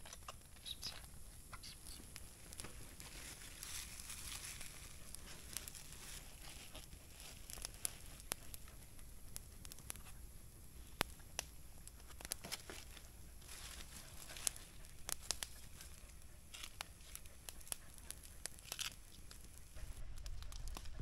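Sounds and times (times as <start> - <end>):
dry leaves and twigs crackling: 0.0 - 21.0.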